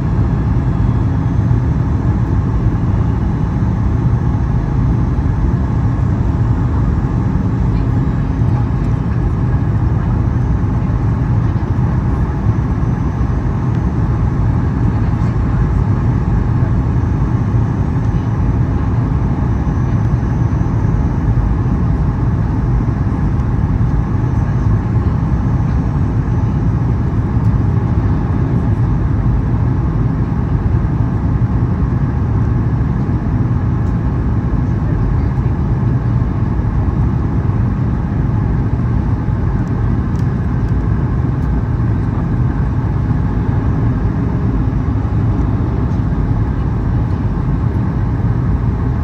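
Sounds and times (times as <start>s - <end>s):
jet engine rumble: 0.0s - 49.0s.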